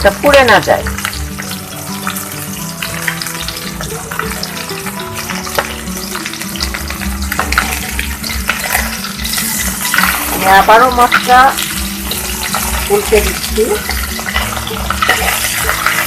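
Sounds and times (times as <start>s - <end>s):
background music: 0.0s - 16.0s
fish frying in hot oil: 0.0s - 16.0s
oil crackles and pops: 0.0s - 16.0s.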